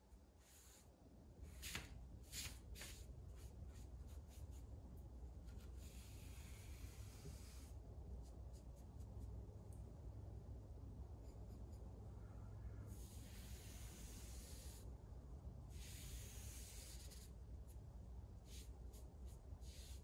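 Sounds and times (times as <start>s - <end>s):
steady low hum: 3.2s - 20.0s.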